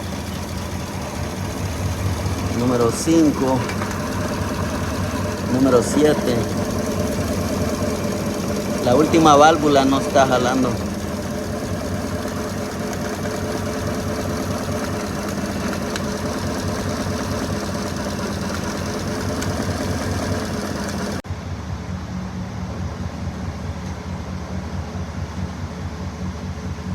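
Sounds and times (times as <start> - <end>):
dull steady engine hum: 0.0 - 26.9
engine idling unevenly: 0.0 - 26.9.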